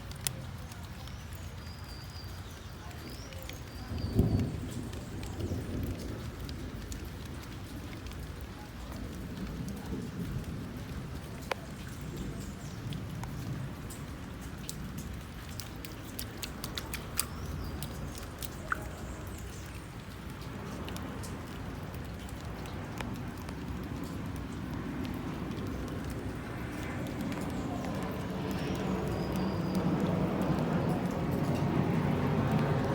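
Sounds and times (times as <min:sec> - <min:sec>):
rain falling: 0:00.0 - 0:32.9
raindrops ticking on surfaces: 0:00.0 - 0:32.9.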